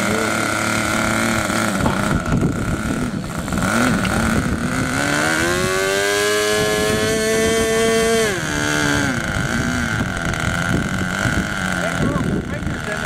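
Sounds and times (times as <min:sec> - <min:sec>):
model boat engine revving: 0:00.0 - 0:13.0.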